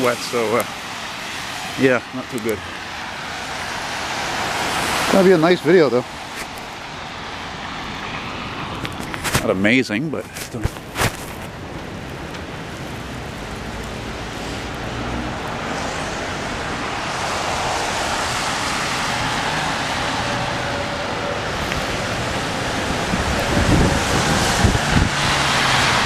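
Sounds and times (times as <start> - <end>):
tyres hissing on wet pavement: 0.0 - 26.0.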